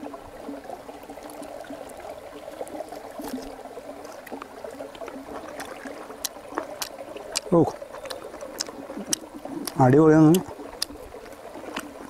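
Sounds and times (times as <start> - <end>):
river flowing over rocks: 0.0 - 12.0
chicken being torn and chewed: 1.1 - 12.0.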